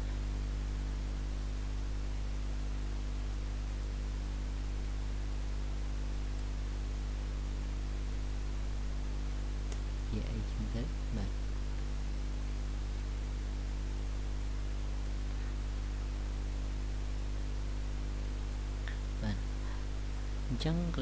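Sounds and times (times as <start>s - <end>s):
electrical mains hum: 0.0s - 21.0s
microphone hiss: 0.0s - 21.0s.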